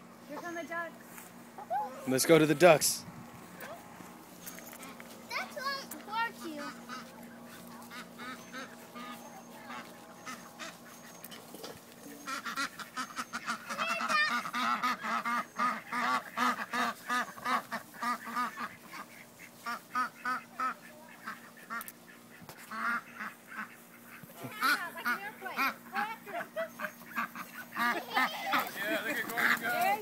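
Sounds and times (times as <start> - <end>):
ducks quacking: 4.8 - 30.0.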